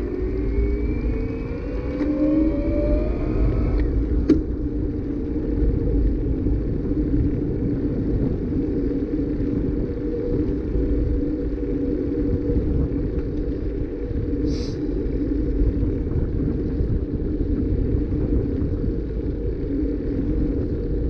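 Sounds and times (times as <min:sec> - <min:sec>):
bicycle rolling on asphalt: 0:00.0 - 0:21.0
faint rising whine: 0:00.0 - 0:21.0
wind on microphone: 0:00.0 - 0:21.0.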